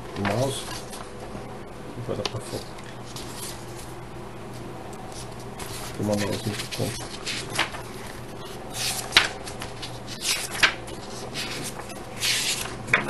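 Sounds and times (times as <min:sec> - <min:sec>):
paper pages flipping: 0:00.2 - 0:01.1, 0:02.2 - 0:03.9, 0:04.5 - 0:13.0.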